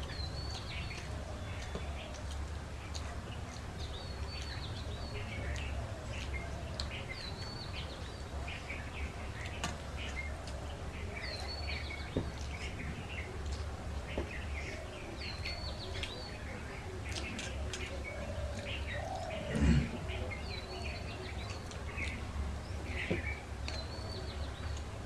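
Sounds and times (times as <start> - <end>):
songbirds chirping: 0.0 - 25.0
steady low hum: 0.0 - 25.0.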